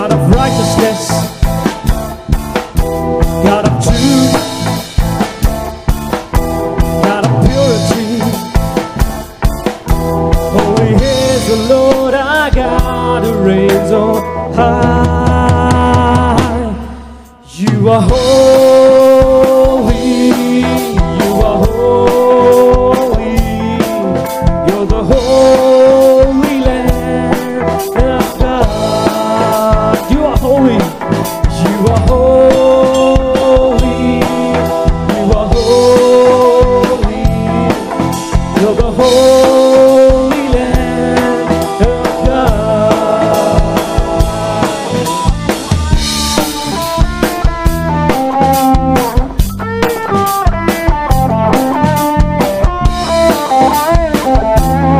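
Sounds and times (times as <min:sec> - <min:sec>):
bass guitar: 0:00.0 - 0:54.9
rock band playing: 0:00.0 - 0:54.9
sliding lead melody: 0:00.0 - 0:54.9.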